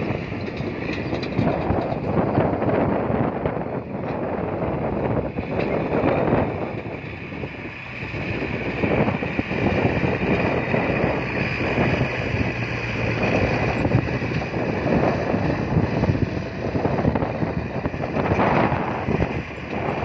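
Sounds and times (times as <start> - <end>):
bulldozer diesel engine running: 0.0 - 20.0
wind buffeting microphone: 0.0 - 20.0.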